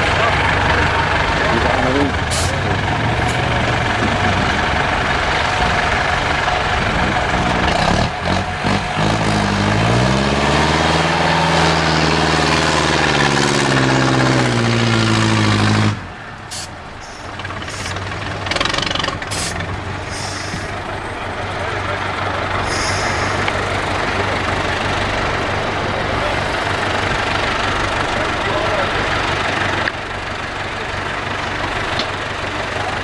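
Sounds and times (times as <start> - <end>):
truck diesel engine revving: 0.0 - 33.0.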